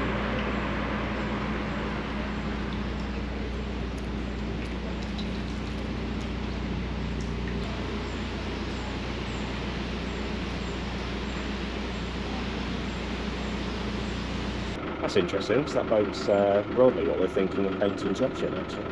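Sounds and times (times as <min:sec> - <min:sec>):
boat engine droning: 0:00.0 - 0:18.9.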